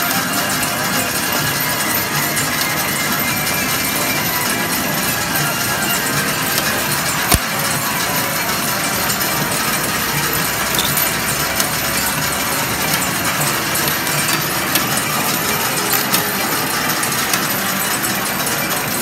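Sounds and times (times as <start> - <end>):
dense background din: 0.0 - 19.0
medals clinking and sliding: 0.1 - 19.0.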